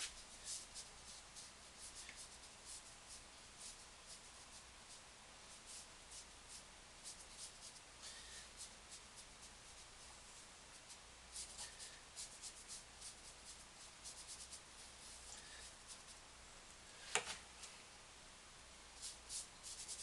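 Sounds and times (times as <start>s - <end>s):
brush strokes on paper: 0.0s - 16.2s, 19.0s - 20.0s.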